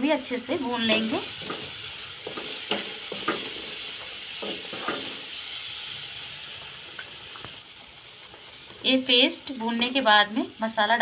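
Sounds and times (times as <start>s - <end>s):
paste sizzling in hot oil: 0.2s - 11.0s.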